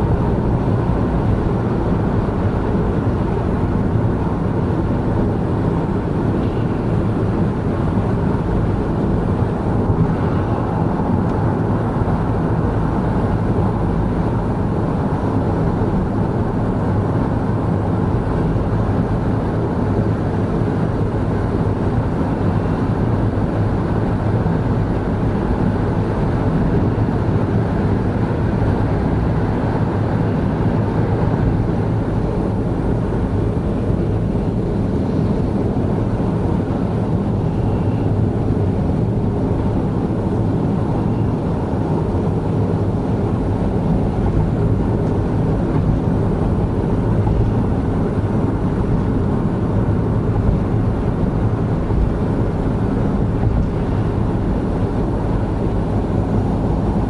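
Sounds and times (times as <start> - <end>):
car engine and tyre road noise: 0.0 - 57.0.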